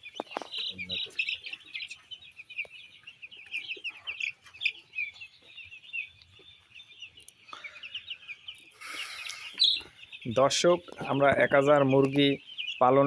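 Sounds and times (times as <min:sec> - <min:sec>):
chickens cheeping: 0:00.0 - 0:13.0.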